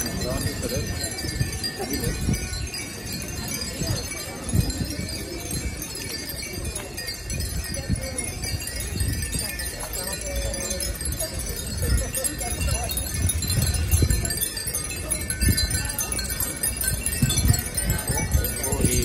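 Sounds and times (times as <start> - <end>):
crowd chatter: 0.0 - 19.0
wind chimes tinkling: 0.0 - 19.0.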